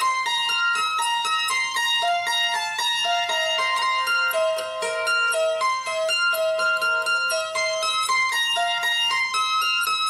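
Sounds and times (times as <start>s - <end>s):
plucked string instrumental melody: 0.0s - 10.0s.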